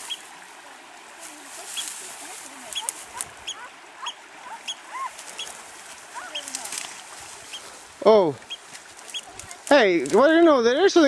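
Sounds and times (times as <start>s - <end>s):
birds chirping: 0.0s - 0.3s, 1.4s - 11.0s
steady background hiss: 0.0s - 11.0s.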